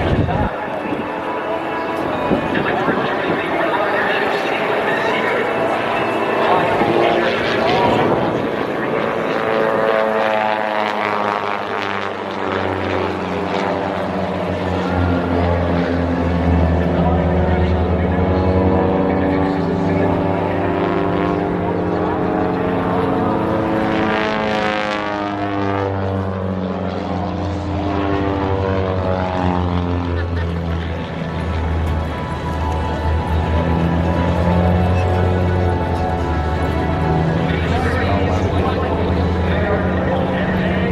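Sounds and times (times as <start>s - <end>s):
propeller airplane flying by: 0.0s - 40.9s.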